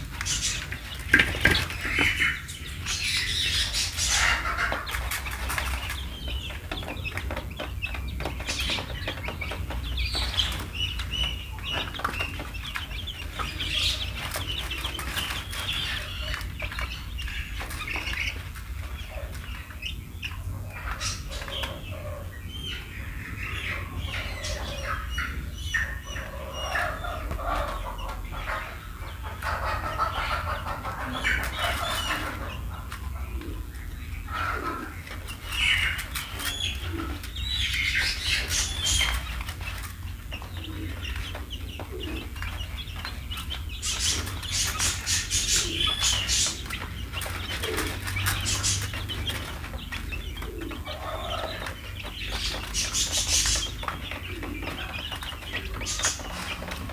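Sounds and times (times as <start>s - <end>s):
chicks cheeping: 0.0s - 56.9s
chicks pecking at feed tray: 0.0s - 56.9s.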